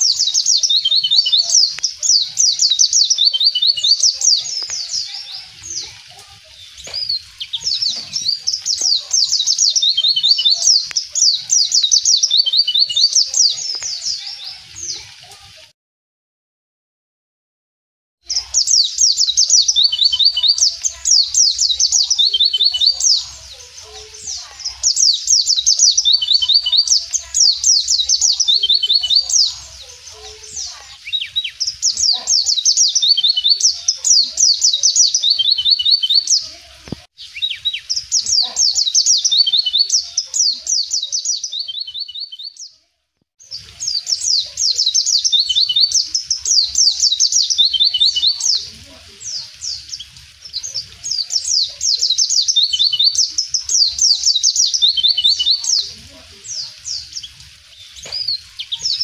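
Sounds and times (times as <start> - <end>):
bird twittering high notes: 0.0 - 15.1, 18.3 - 36.6, 37.2 - 42.7, 43.4 - 55.9.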